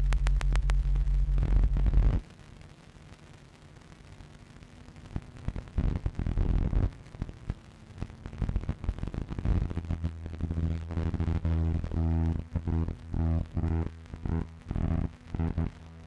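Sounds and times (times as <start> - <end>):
pulsing low buzzing hum: 0.0 - 2.2, 5.2 - 16.0
crackling static noise: 0.0 - 16.0.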